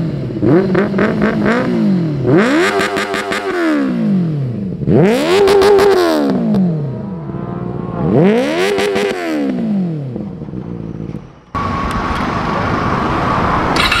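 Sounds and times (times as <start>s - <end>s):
motorcycle engine revving: 0.0s - 14.0s
steady noisy engine or traffic: 0.0s - 14.0s.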